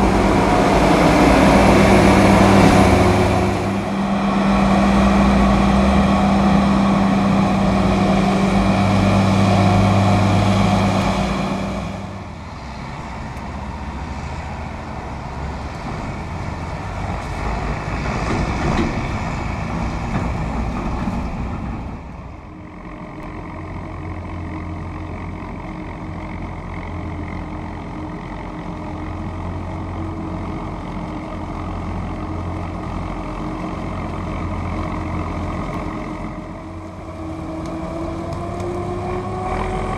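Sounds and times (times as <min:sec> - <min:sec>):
distant machine noise: 0:00.0 - 0:39.9
engine running steadily: 0:00.0 - 0:39.9
loud diesel engine humming: 0:00.0 - 0:39.9.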